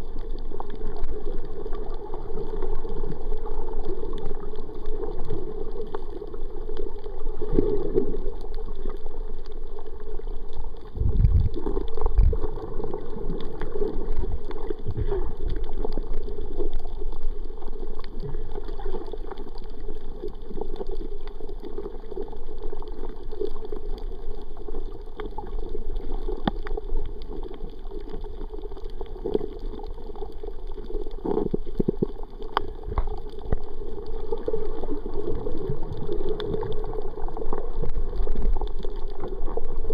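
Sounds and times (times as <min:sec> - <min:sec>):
underwater gurgling swish: 0:00.0 - 0:39.9.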